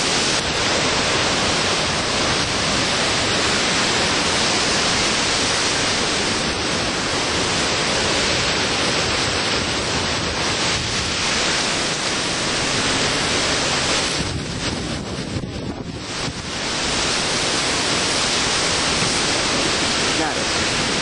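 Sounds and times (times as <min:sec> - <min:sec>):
hurricane wind and rain: 0:00.0 - 0:21.0
wind buffeting microphone: 0:00.0 - 0:21.0.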